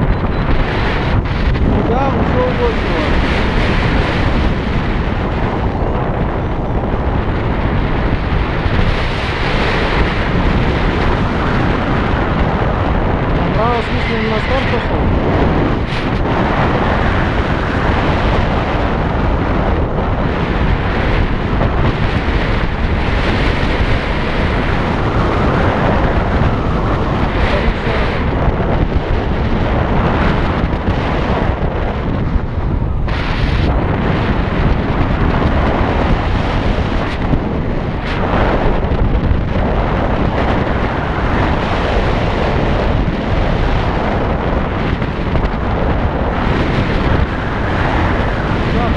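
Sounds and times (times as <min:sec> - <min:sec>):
motorcycle riding rumble: 0:00.0 - 0:48.9
wind buffeting microphone: 0:00.0 - 0:48.9.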